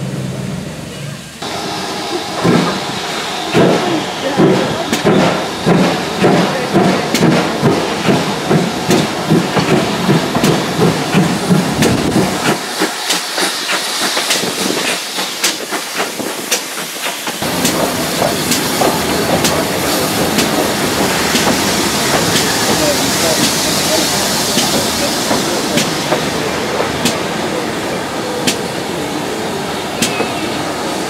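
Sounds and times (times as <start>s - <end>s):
steam locomotive exhaust beating: 0.0s - 31.0s
steam hissing: 1.3s - 31.0s.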